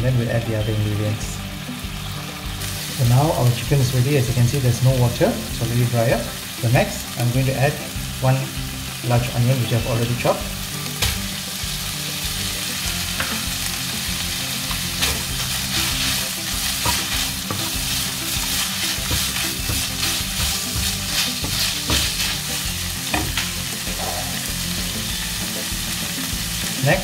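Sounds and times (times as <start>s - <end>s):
food sizzling in a frying pan: 0.1s - 27.0s.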